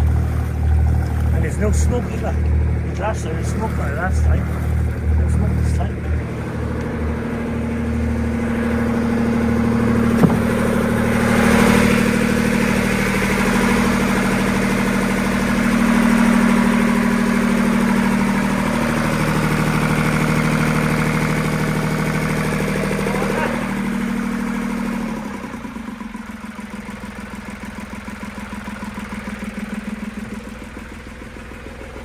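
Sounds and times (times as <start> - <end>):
boat engine running: 0.0 - 32.0.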